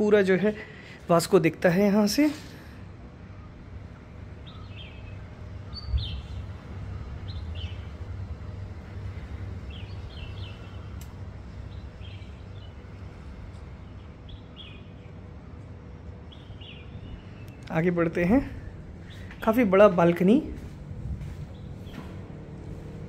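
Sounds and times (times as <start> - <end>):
steady low rumble: 0.0 - 23.0
small birds chirping: 3.3 - 23.0.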